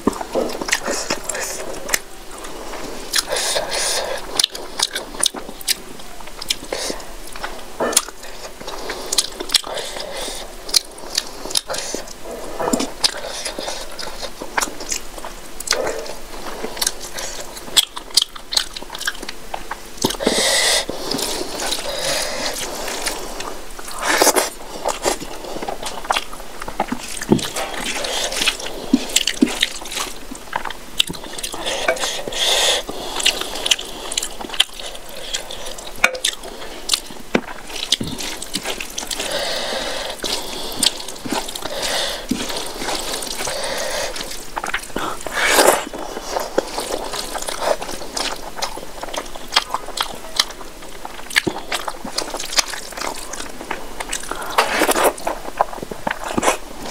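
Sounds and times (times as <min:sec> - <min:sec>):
wet chewing and mouth clicks: 0:00.0 - 0:56.9.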